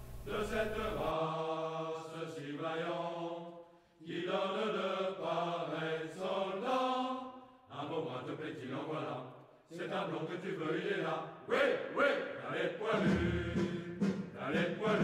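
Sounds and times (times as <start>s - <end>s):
voices singing long held notes: 0.3s - 15.0s.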